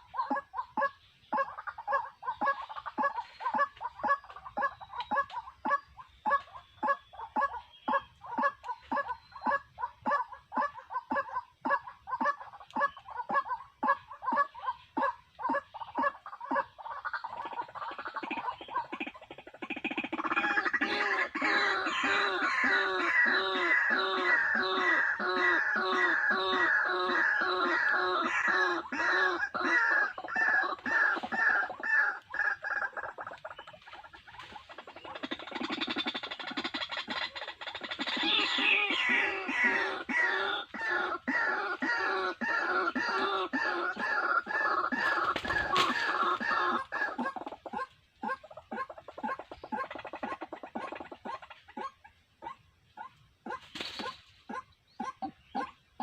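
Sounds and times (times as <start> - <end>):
waterhen calling: 0.0 - 56.0.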